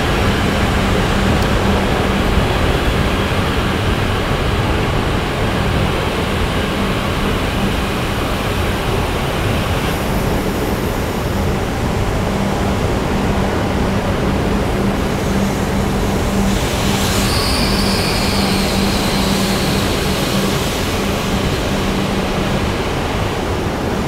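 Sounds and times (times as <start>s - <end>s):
train rolling past: 0.0s - 24.0s.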